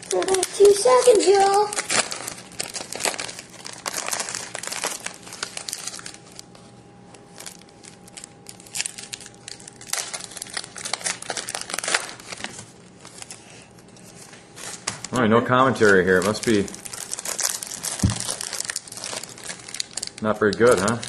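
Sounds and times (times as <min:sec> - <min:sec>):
card packaging crinkling: 0:00.0 - 0:21.0.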